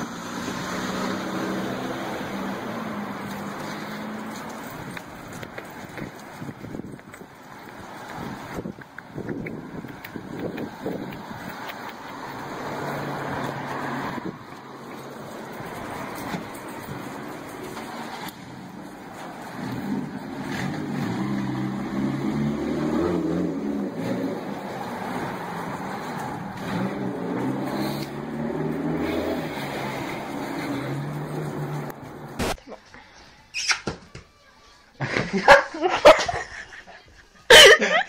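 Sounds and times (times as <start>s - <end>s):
cars going by: 0.0s - 33.1s.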